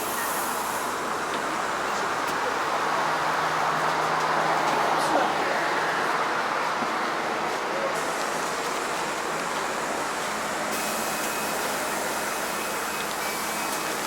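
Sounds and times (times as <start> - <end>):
city bus ride noise: 0.0 - 14.0.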